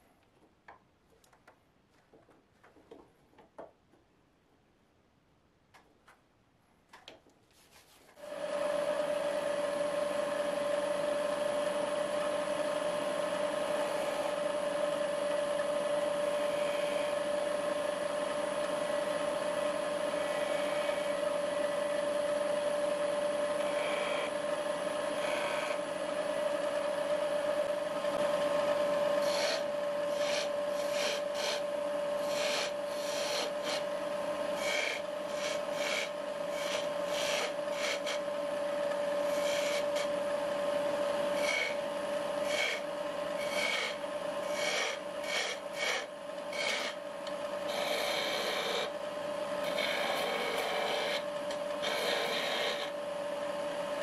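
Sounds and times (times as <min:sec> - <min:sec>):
tool scraping spinning wood: 0:07.6 - 0:54.0
wood lathe motor whine: 0:08.2 - 0:54.0.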